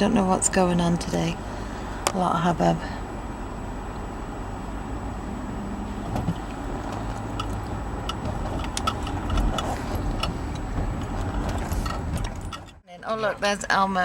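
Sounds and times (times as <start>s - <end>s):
road and engine rumble: 0.0s - 14.0s.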